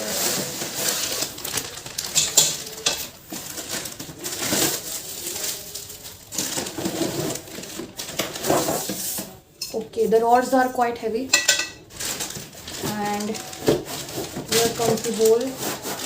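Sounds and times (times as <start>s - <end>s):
cardboard and packing rustling: 0.0s - 9.5s, 11.8s - 16.0s.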